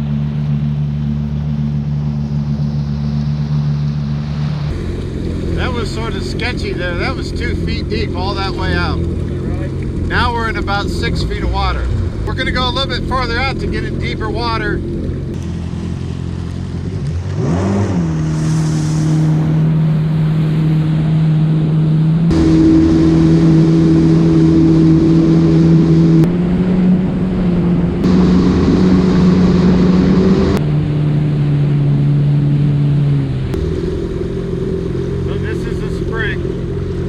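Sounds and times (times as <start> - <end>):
water rushing: 0.0 - 37.0
watercraft engine: 0.0 - 37.0
wind: 0.0 - 37.0.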